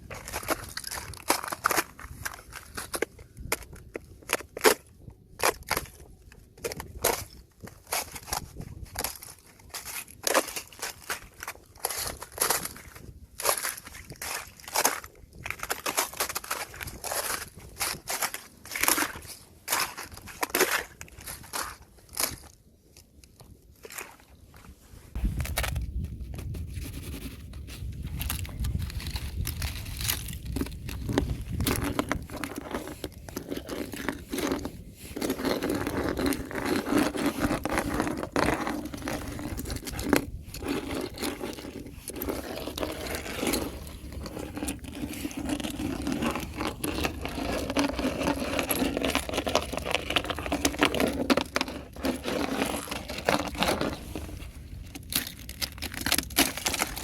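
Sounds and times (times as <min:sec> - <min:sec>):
thin ice scraping and cracking: 0:00.0 - 0:57.0.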